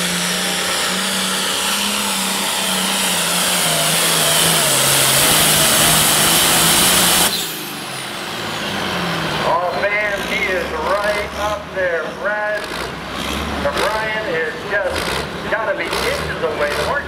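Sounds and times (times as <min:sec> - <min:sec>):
tractor diesel engine at full throttle: 0:00.0 - 0:17.0.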